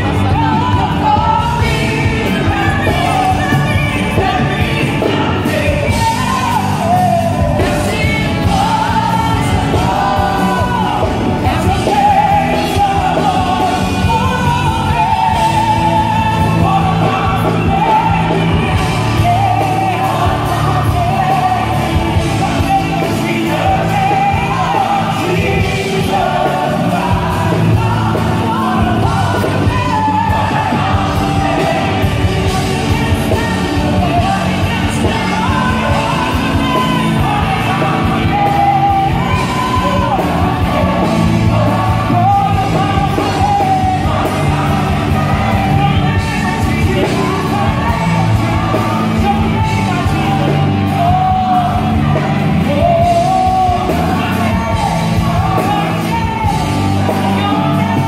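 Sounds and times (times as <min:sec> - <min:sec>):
women singing gospel: 0:00.0 - 0:58.0.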